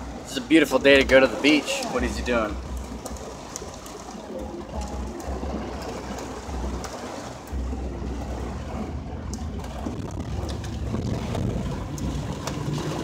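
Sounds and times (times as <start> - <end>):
low road rumbling: 0.0 - 13.0.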